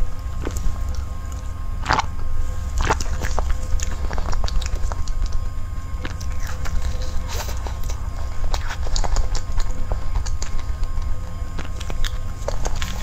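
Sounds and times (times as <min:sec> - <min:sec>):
mouth clicks: 0:00.0 - 0:13.0
steady low rumble: 0:00.0 - 0:13.0
gulping and swallowing: 0:00.2 - 0:13.0.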